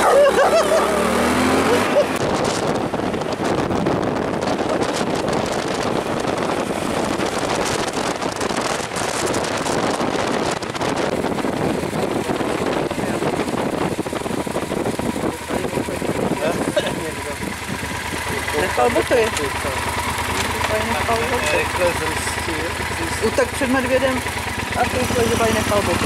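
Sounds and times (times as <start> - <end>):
wind rushing over microphone: 0.0 - 23.4
motorcycle engine running: 0.0 - 26.0.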